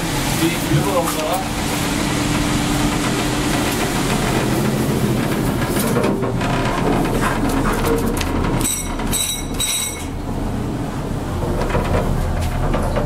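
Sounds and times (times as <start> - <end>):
low machinery rumble and hum: 0.0 - 13.0.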